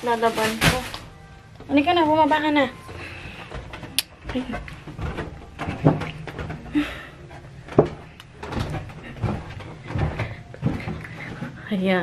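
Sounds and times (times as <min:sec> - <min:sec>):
footsteps going down stairs: 0:01.6 - 0:12.0.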